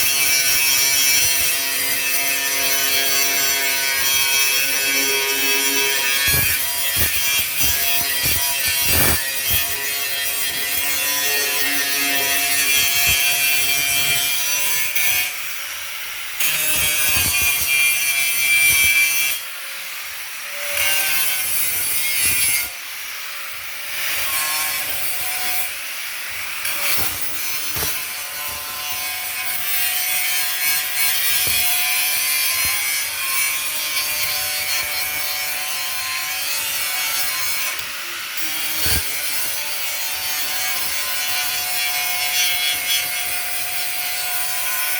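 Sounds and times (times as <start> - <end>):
abrasive sanding on metal: 0.0 - 15.4, 23.9 - 44.9.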